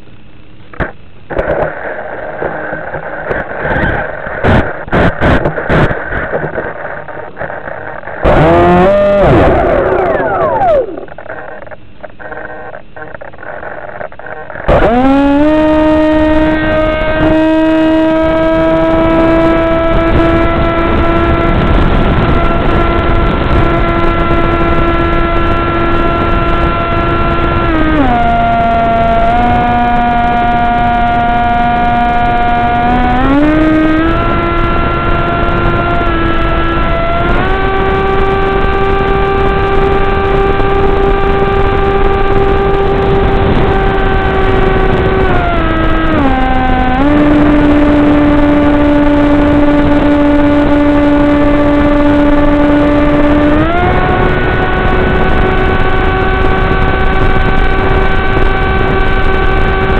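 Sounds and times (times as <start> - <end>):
model airplane motor whine: 8.2 - 11.6, 14.2 - 59.9.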